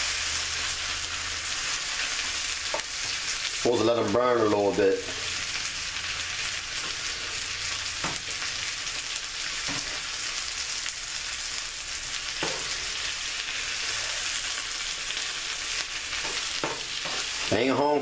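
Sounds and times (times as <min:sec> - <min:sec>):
potatoes sizzling in oil: 0:00.0 - 0:18.0.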